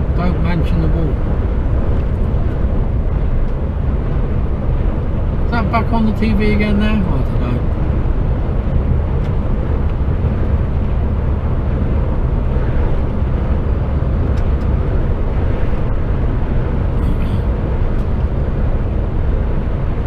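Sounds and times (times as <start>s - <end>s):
lorry engine and road noise: 0.0s - 20.0s.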